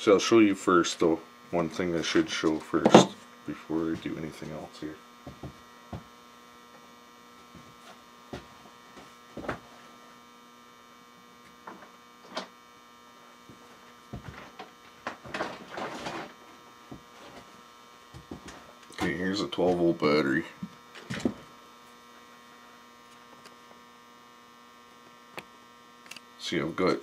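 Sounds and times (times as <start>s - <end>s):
buzzy electrical mains hum: 0.0s - 27.0s.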